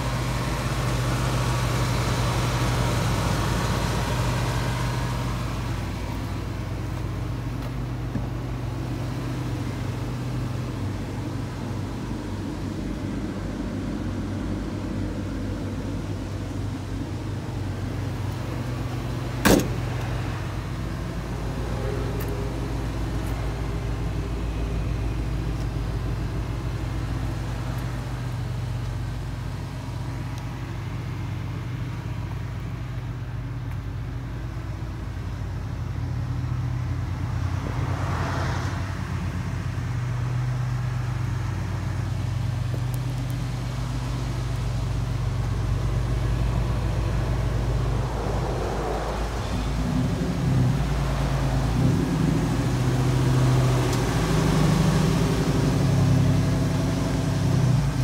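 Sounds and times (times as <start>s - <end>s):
truck engine idling: 0.0s - 37.8s, 39.0s - 58.0s.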